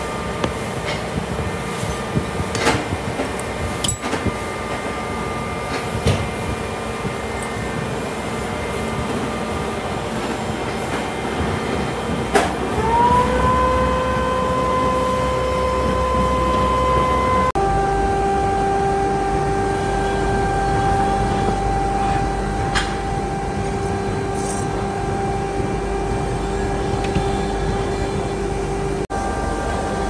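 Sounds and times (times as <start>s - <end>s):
workshop machinery humming: 0.0s - 30.0s
machine spinning up whine: 3.0s - 27.5s.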